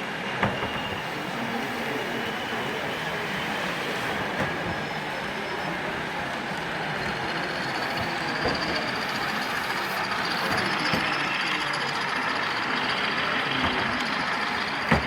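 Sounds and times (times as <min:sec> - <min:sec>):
model train motor and wheels humming: 0:00.0 - 0:15.0
faint high whine: 0:00.5 - 0:15.0.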